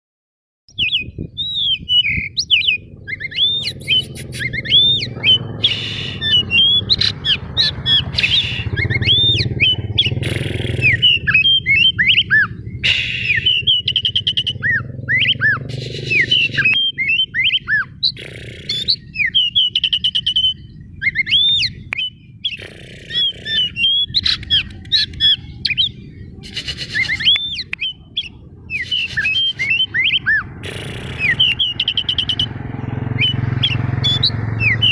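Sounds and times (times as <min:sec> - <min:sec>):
bird singing: 0:00.7 - 0:34.9.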